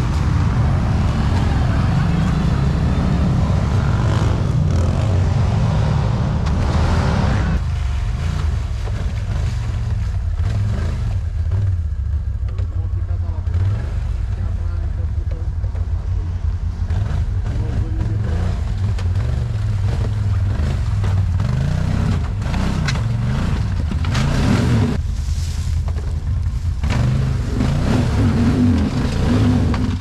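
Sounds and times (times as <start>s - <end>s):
quad bike engine revving: 0.0s - 25.0s, 26.8s - 30.0s.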